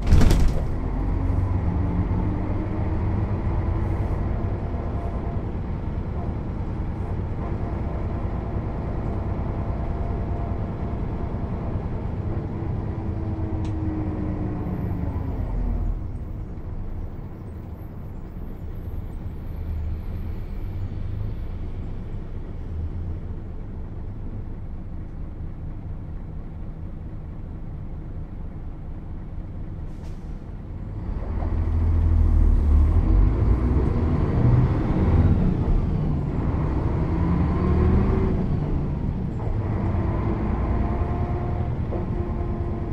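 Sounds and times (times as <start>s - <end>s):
bus diesel engine: 0.0s - 42.9s.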